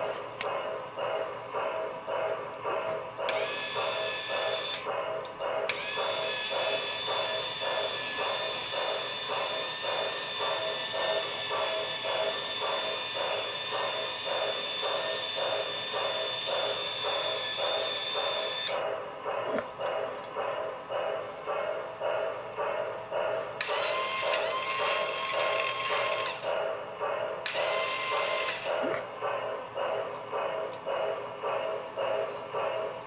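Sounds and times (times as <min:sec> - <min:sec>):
rhythmic pulsing: 0:00.0 - 0:33.0.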